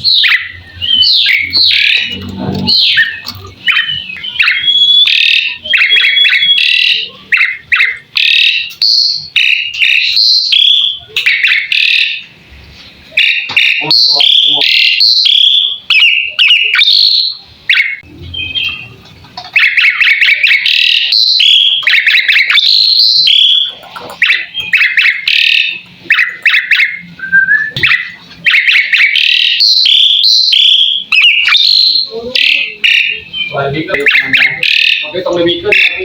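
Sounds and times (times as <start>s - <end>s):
starling singing: 0.0s - 36.0s.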